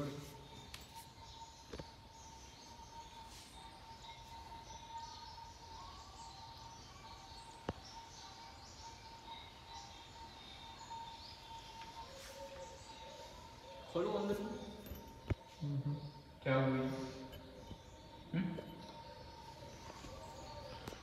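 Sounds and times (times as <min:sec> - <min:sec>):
small birds chirping: 0:00.0 - 0:21.0
thin steady high tone: 0:00.0 - 0:21.0.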